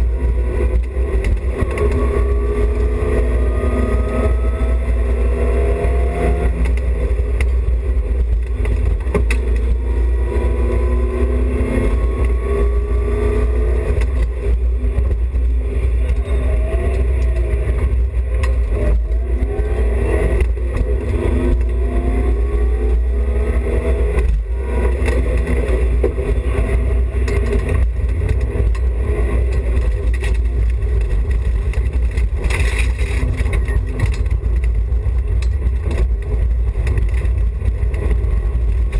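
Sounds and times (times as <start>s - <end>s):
car engine revving: 0.0s - 38.9s
road and drivetrain rumble: 0.0s - 38.9s.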